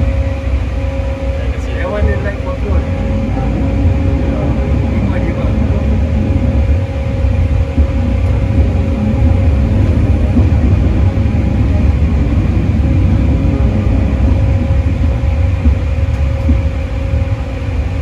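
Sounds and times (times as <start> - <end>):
locomotive low rumble: 0.0 - 18.0
steady hum: 0.0 - 18.0.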